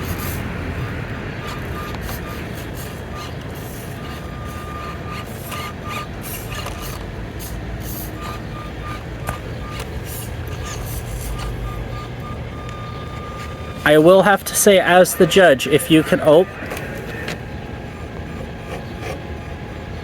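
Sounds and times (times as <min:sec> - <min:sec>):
small electric motor whining: 0:00.0 - 0:20.0
tires scrabbling on rock: 0:00.0 - 0:20.0.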